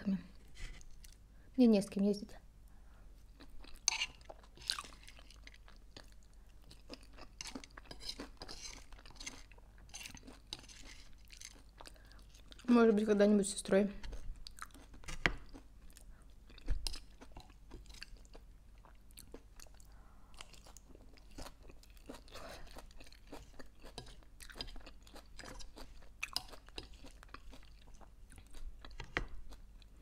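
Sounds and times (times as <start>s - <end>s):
chewing leafy salad: 3.2s - 13.1s, 14.0s - 30.0s.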